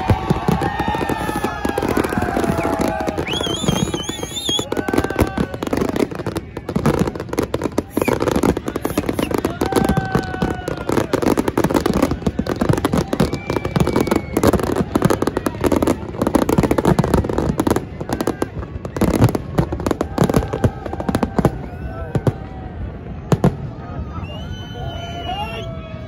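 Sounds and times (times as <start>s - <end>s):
fireworks bursting and crackling: 0.0s - 24.4s.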